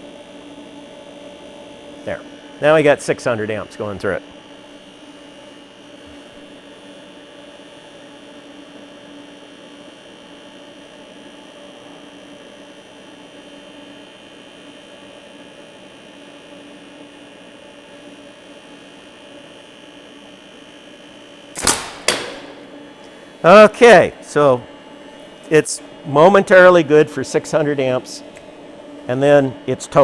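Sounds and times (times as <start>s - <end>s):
welder electrical hum and whine: 0.0s - 30.0s.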